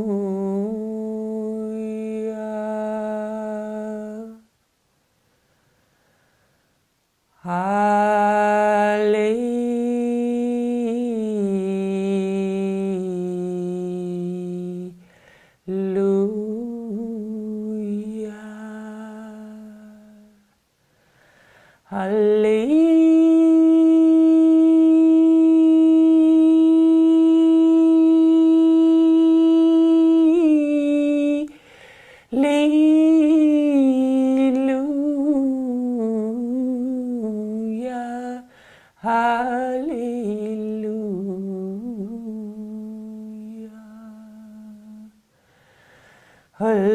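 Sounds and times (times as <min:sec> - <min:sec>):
woman singing wordless tones: 0:00.0 - 0:04.6, 0:07.3 - 0:20.6, 0:21.8 - 0:45.3, 0:46.5 - 0:46.9.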